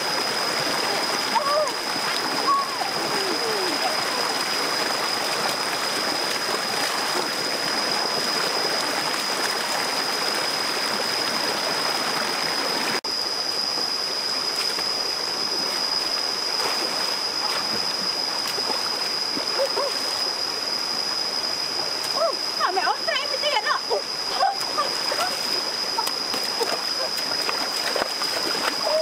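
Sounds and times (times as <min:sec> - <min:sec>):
stream rushing over stones: 0:00.0 - 0:29.0.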